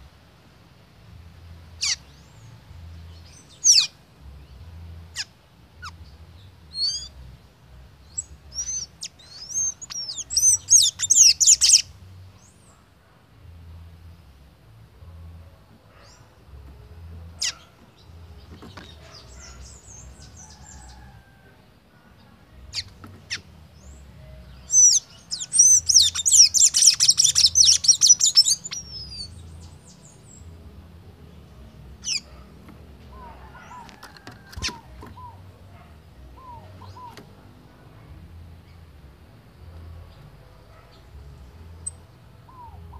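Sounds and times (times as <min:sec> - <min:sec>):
bird chirps and twittering song: 0:01.6 - 0:13.0, 0:15.9 - 0:21.4, 0:22.1 - 0:37.6, 0:39.7 - 0:42.9.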